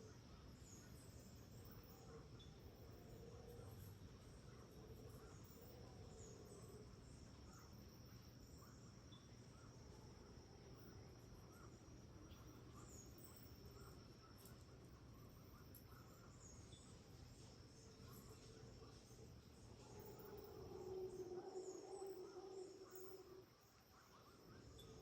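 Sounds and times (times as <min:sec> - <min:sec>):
high insect drone: 0:00.1 - 0:25.0.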